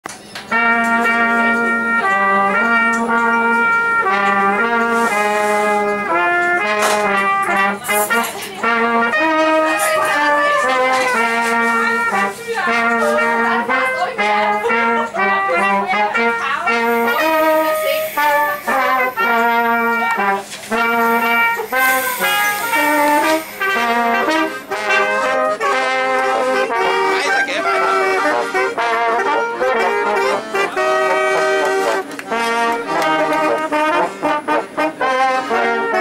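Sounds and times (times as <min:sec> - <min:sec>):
brass horns playing held notes: 0:00.2 - 0:36.0.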